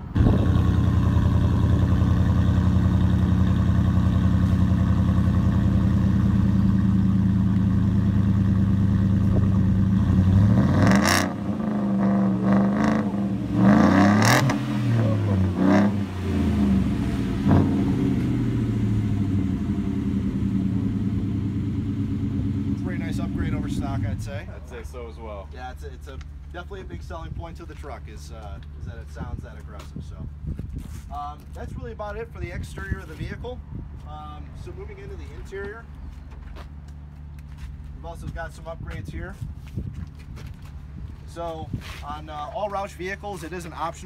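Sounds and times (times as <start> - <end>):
truck engine idling and revving: 0.0 - 44.0.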